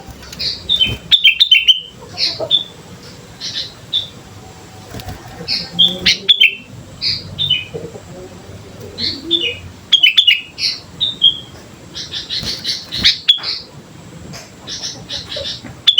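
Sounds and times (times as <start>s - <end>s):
bird chirping: 0.0s - 15.9s.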